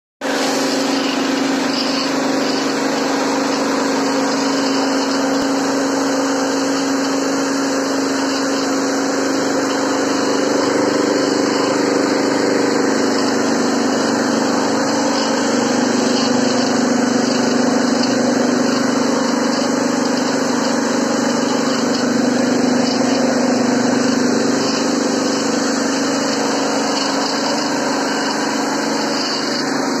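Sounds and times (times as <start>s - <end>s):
rice mill motor running: 0.2s - 30.0s.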